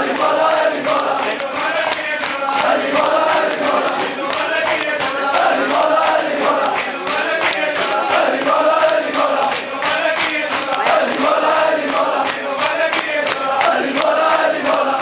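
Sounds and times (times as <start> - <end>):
hands slapping on chests: 0.0 - 15.0
men chanting in unison: 0.0 - 15.0.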